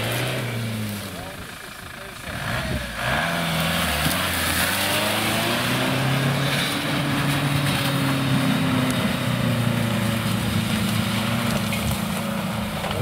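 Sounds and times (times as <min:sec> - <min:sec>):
diesel engine pulling under load: 0:00.0 - 0:13.0.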